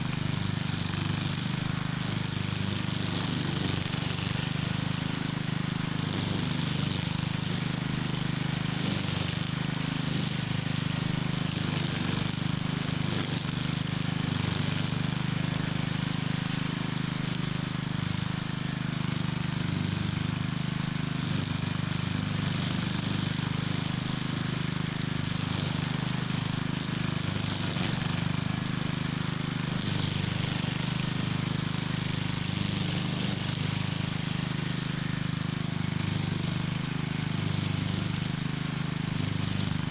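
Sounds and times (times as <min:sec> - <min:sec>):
string trimmer engine running: 0:00.0 - 0:39.9
trimmer line hissing: 0:00.0 - 0:39.9.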